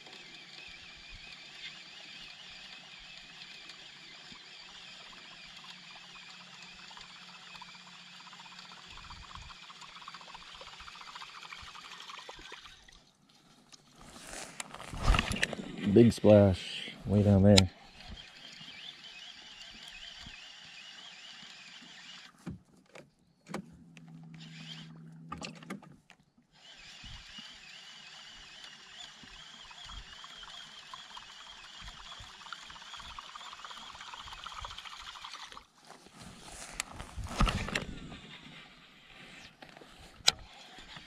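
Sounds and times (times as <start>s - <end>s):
fishing reel whirring: 0.0s - 13.1s, 14.0s - 22.4s, 24.0s - 25.3s, 26.5s - 35.7s, 36.4s - 41.0s.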